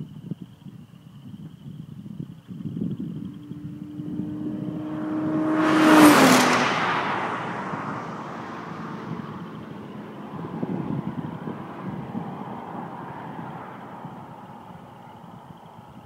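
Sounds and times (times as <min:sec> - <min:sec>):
car passing at speed: 0:03.0 - 0:16.0.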